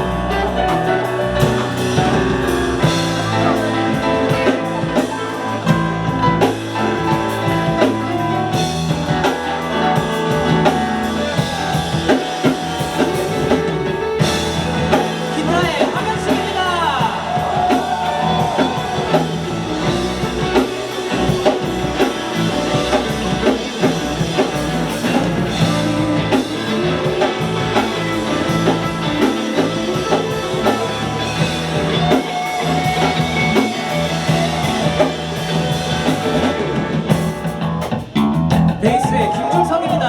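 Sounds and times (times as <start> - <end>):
electric guitar: 0.0 - 40.0
live rock band playing: 0.0 - 40.0.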